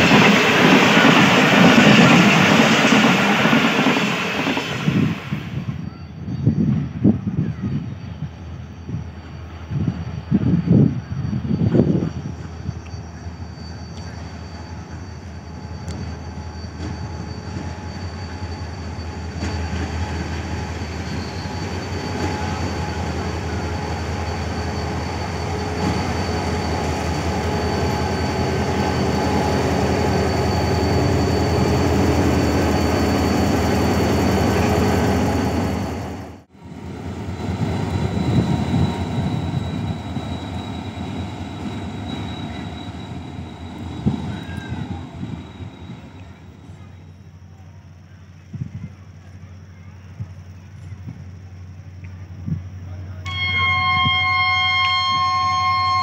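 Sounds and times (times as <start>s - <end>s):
thin high whine: 0.0s - 47.3s, 52.5s - 56.0s
locomotive engine drone: 0.0s - 49.7s, 50.4s - 56.0s.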